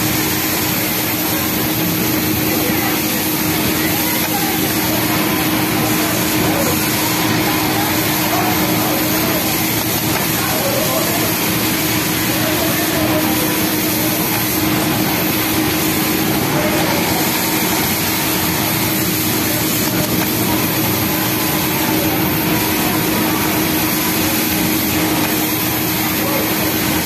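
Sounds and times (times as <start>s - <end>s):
industrial sewing machines whirring: 0.0s - 27.0s.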